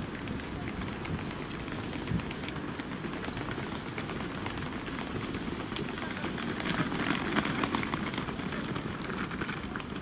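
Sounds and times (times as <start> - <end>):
train low rumble and hiss: 0.0 - 10.0.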